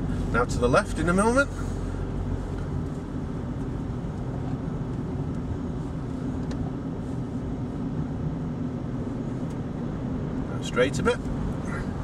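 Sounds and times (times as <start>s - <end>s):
car engine hum: 0.0s - 12.0s
tyre and road noise: 0.0s - 12.0s.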